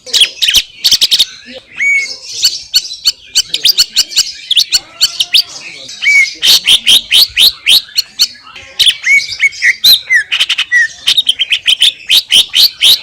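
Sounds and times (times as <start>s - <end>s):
bird singing chirps: 0.0s - 13.0s.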